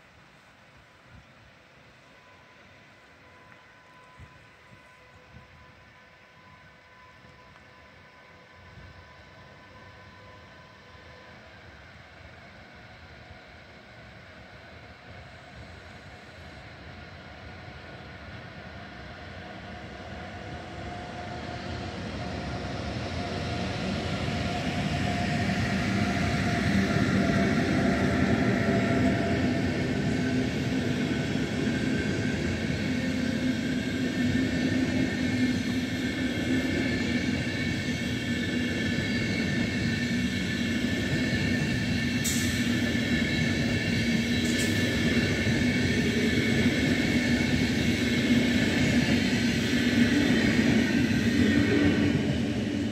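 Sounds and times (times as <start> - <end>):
train wheels rolling on rails: 1.2 - 52.9
steady whining tones: 1.7 - 52.9.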